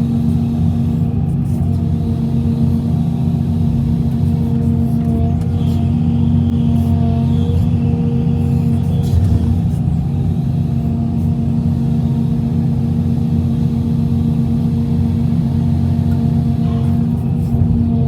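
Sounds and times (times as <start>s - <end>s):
excavator diesel engine humming: 0.0s - 18.0s.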